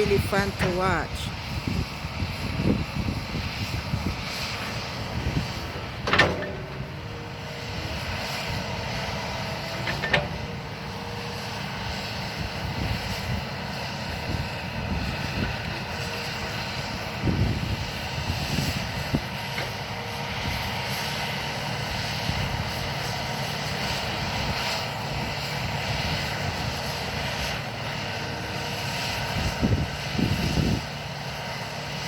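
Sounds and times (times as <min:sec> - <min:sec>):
excavator diesel engine running: 0:00.0 - 0:32.0.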